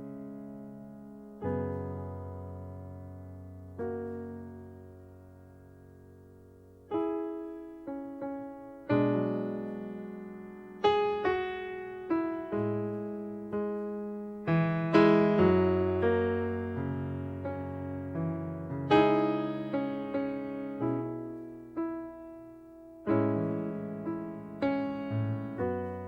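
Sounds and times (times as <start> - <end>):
slow gentle solo piano: 0.0 - 26.0.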